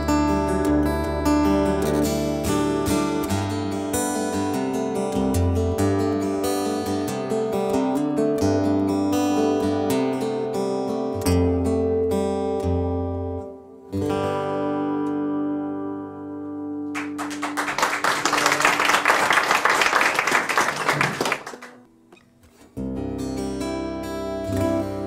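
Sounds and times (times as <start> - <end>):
acoustic guitar chords ringing: 0.0 - 17.8, 21.6 - 25.0.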